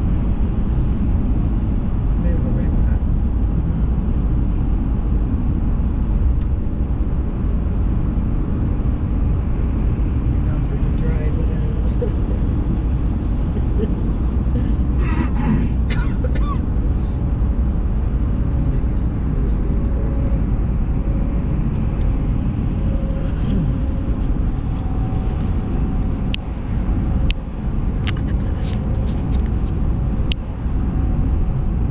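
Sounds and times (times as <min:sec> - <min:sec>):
vehicle road and engine noise: 0:00.0 - 0:31.9.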